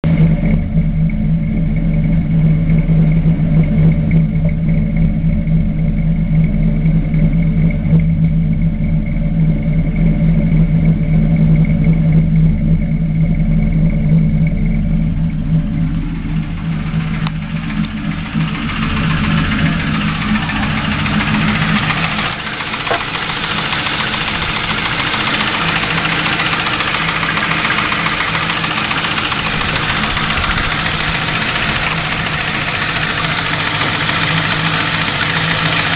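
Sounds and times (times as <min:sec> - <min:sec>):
car engine idling with ticking: 0:00.0 - 0:35.9.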